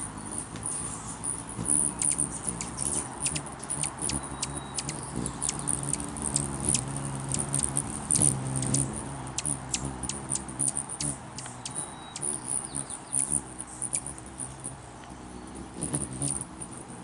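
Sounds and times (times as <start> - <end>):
hummingbird wings humming: 0.0 - 17.0
hummingbirds chipping: 0.0 - 17.0.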